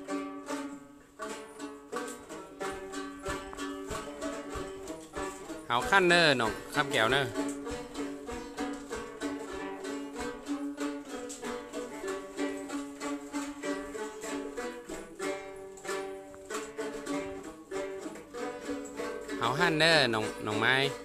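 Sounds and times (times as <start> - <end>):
plucked string folk melody: 0.0 - 21.0.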